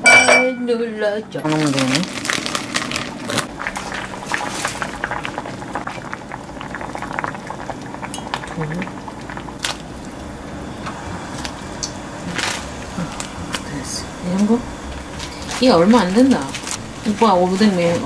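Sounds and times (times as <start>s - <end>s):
broth boiling and bubbling: 1.0s - 18.0s.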